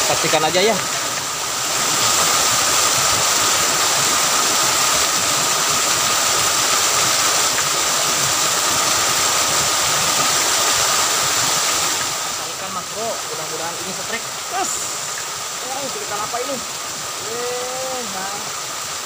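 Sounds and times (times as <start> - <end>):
small waterfall splashing: 0.0 - 19.0.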